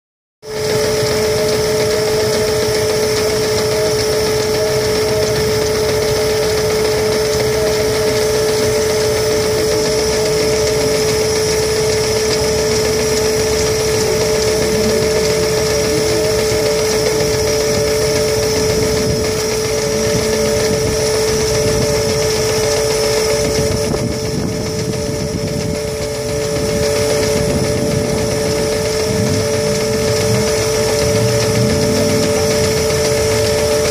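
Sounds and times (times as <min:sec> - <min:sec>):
threshing machine drum running: 0:00.4 - 0:33.9.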